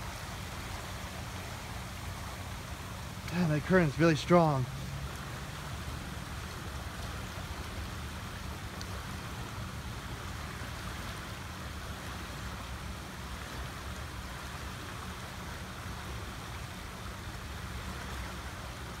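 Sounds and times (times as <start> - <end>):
rushing floodwater: 0.0 - 19.0.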